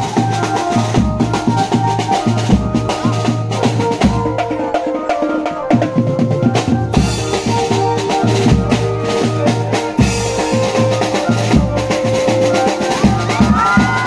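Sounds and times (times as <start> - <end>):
drum kit beat: 0.0 - 14.0
held notes: 0.0 - 14.0.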